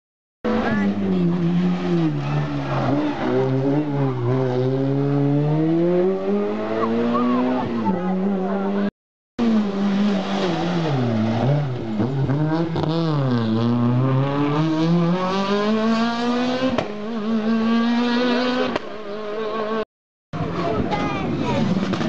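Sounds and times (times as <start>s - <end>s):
rally car engine revving: 0.4s - 19.8s, 20.4s - 22.0s.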